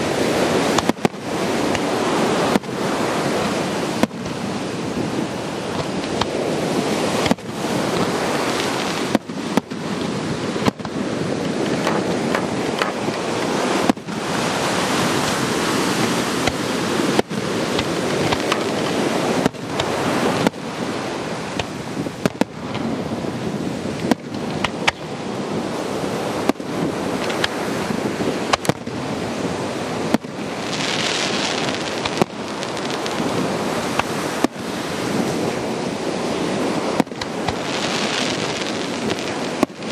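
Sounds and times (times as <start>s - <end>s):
constant rushing noise: 0.0s - 39.9s
fireworks bursting with sharp bangs: 0.0s - 39.9s
fireworks hissing: 0.0s - 39.9s.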